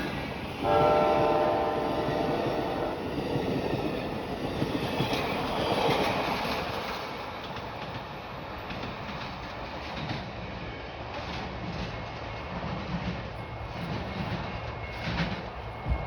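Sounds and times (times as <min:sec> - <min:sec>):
passenger train rolling past: 0:00.0 - 0:16.0.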